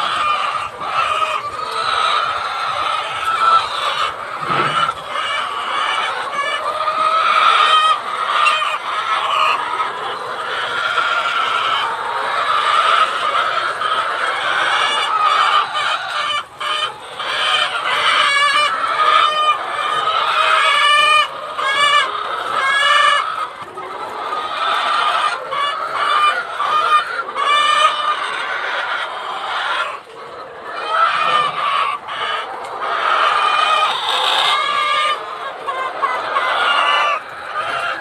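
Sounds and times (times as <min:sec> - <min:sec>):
hens clucking: 0:00.0 - 0:38.0.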